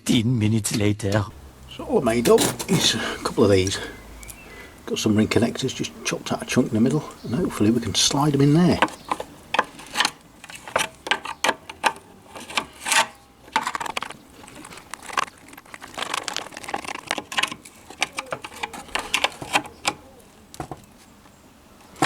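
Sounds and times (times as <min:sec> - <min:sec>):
metal connectors clicking and rattling: 0:01.4 - 0:21.0.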